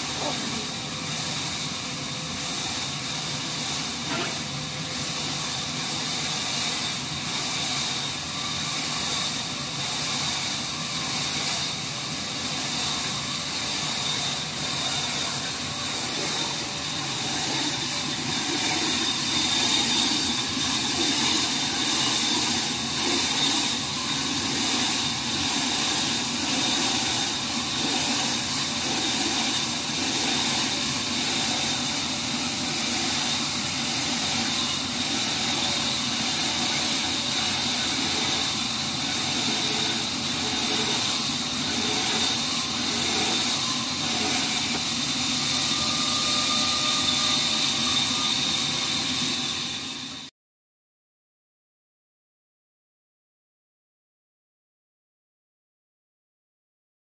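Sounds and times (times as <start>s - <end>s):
band sawmill cutting log: 0.0s - 50.3s.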